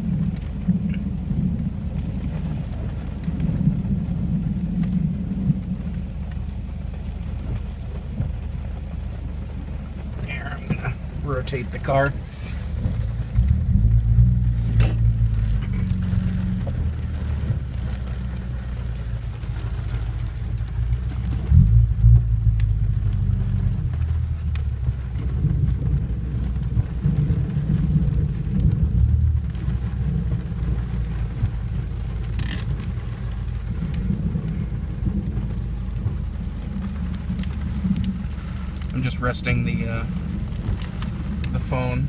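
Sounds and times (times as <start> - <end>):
car engine rumble inside cabin: 0.0 - 42.0.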